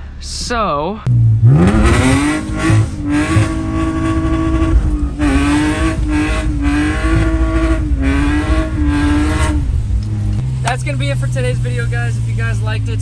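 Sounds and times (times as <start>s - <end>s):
car engine revving hard: 1.1s - 13.0s.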